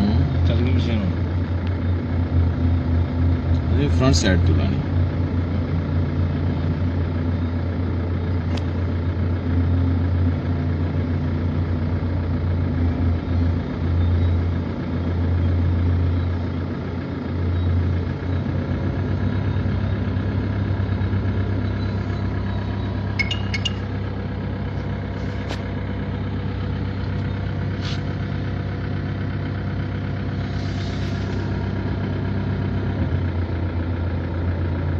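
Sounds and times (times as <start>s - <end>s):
heavy diesel engines droning: 0.0s - 34.9s.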